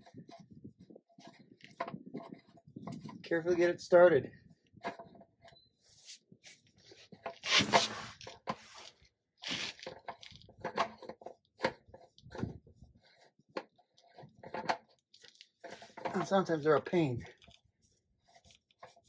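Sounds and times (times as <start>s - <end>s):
oil filter clicks and scrapes: 0.0s - 3.6s, 6.6s - 19.0s.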